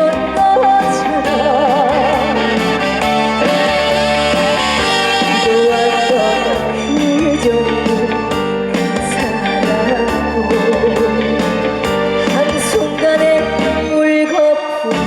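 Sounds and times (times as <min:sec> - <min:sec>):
band playing upbeat trot song: 0:00.0 - 0:14.0.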